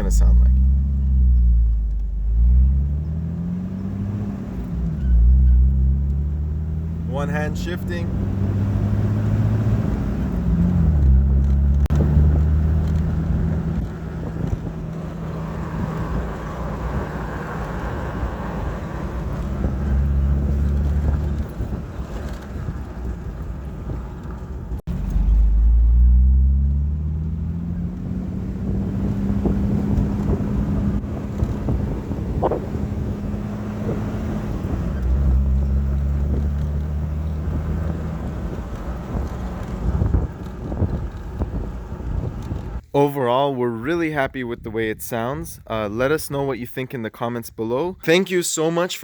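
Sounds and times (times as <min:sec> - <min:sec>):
car engine accelerating: 0:00.0 - 0:42.8.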